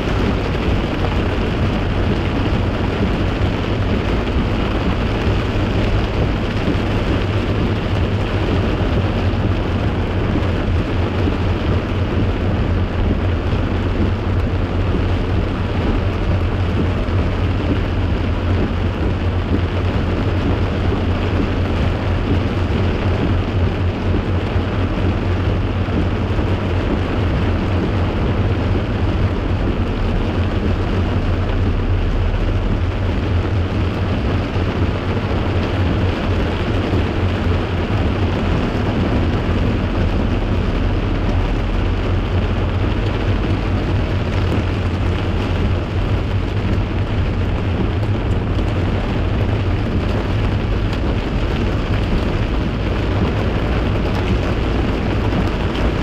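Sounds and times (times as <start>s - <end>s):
car driving rumble: 0.0s - 56.0s
heavy rain on car roof: 0.0s - 56.0s.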